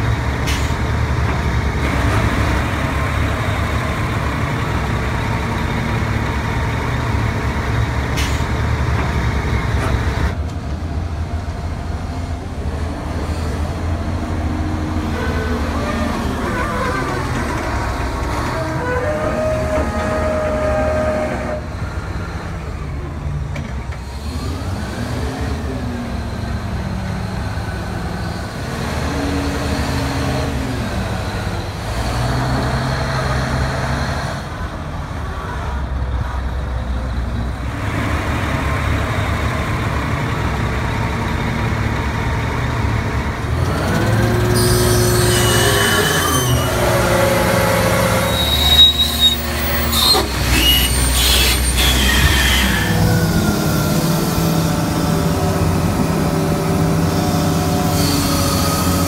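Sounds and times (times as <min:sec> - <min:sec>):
excavator diesel engine revving: 0:00.0 - 0:36.3, 0:36.9 - 0:59.0.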